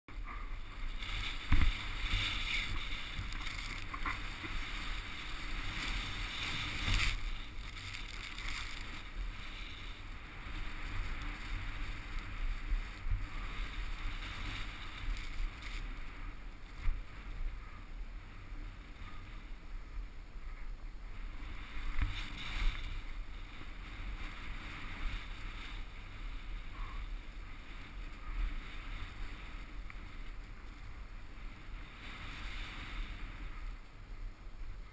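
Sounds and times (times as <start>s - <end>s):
snowboard sliding through snow: 0.1s - 34.9s
wind rumble on microphone: 0.1s - 34.9s.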